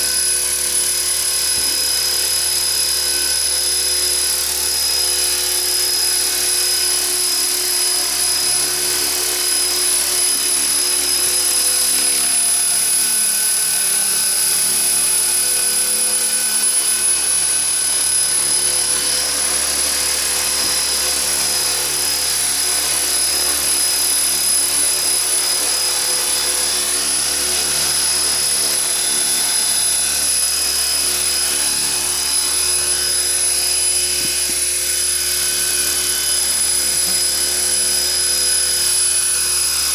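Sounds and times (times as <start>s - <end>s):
model helicopter whining: 0.0s - 39.9s.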